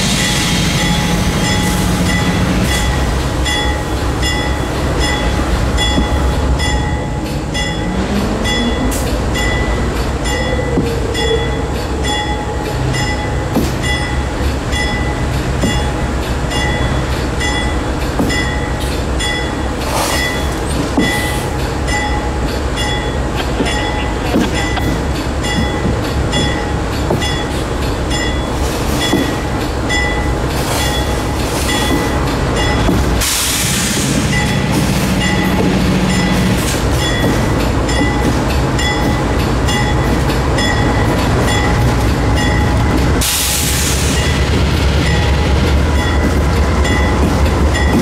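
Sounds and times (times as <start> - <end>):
locomotive bell ringing: 0.0 - 33.0, 34.2 - 43.3, 44.0 - 48.0
diesel locomotive rumble: 0.0 - 48.0.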